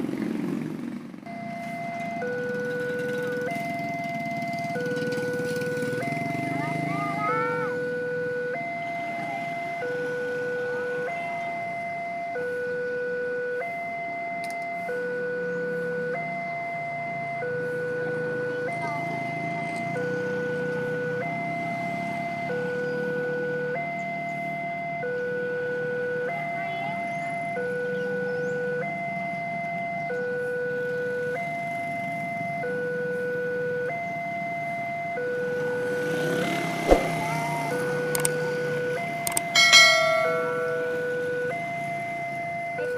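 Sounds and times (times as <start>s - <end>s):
low motorcycle engine hum: 0.0s - 42.9s
two-tone crossing alarm: 1.2s - 42.9s.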